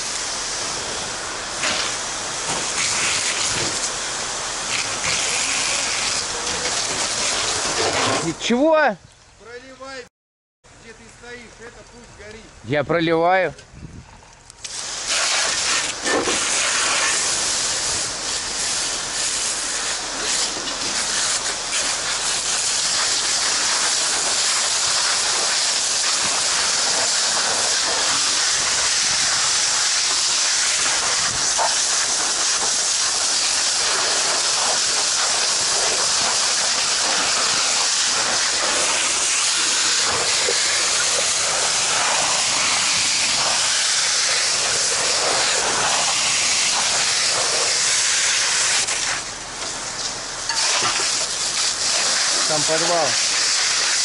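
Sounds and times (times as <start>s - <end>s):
fire hose spraying water: 0.0s - 8.9s, 14.6s - 54.0s.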